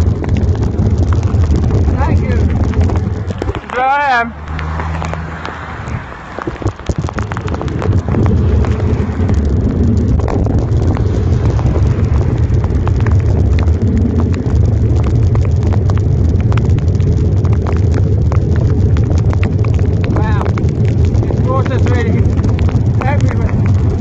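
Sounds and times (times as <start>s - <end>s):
raindrops ticking on phone: 0.0s - 24.0s
wind rumbling on microphone: 0.0s - 24.0s.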